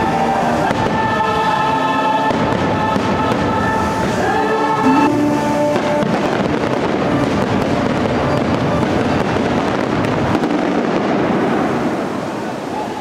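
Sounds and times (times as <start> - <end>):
fireworks banging and crackling: 0.0 - 12.8.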